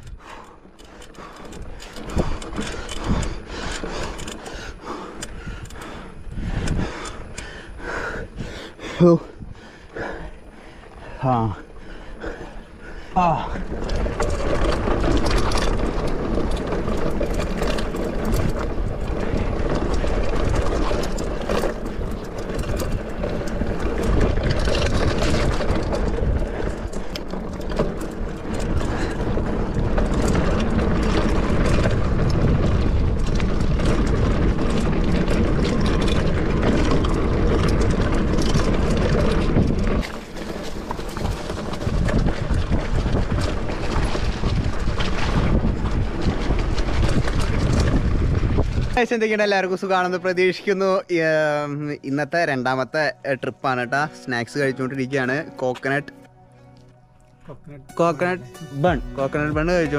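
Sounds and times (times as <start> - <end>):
bike rattling over bumps: 0.0 - 56.0
bike tyres rumbling on trail: 0.0 - 56.1.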